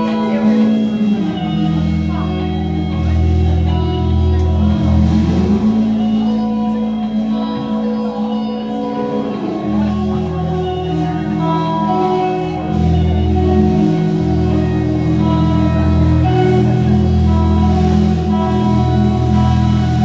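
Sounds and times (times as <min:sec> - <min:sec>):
bass notes: 0:00.0 - 0:20.0
live rock band playing: 0:00.0 - 0:20.0.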